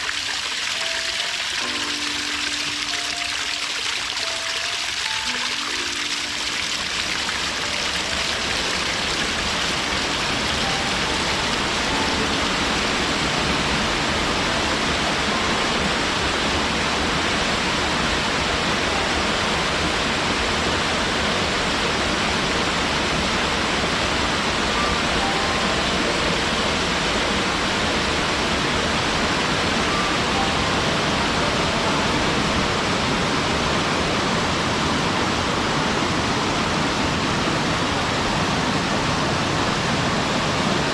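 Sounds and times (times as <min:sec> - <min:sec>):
waterfall pouring into pool: 0:00.0 - 0:40.9.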